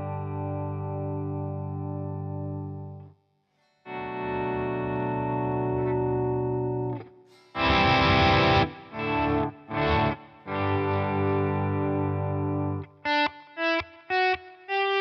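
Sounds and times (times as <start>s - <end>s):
electric guitar chords: 0.0s - 3.1s, 3.9s - 15.0s.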